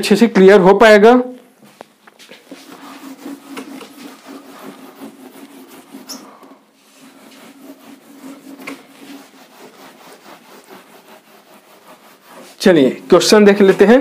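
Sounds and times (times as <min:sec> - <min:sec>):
duster rubbing whiteboard: 0:02.2 - 0:14.0.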